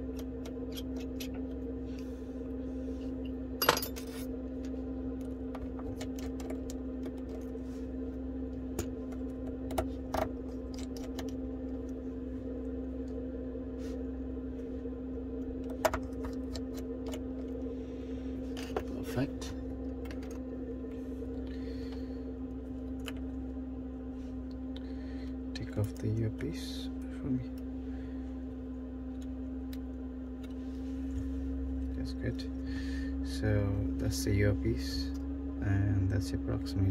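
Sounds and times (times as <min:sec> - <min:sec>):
low hum: 0:00.0 - 0:36.9.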